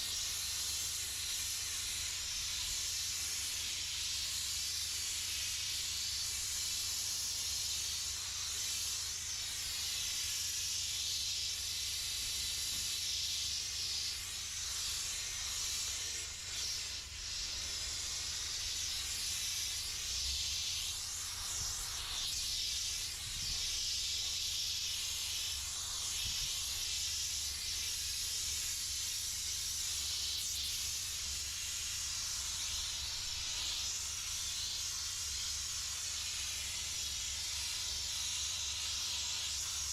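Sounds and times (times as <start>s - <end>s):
steam cleaner hissing: 0.0s - 39.9s.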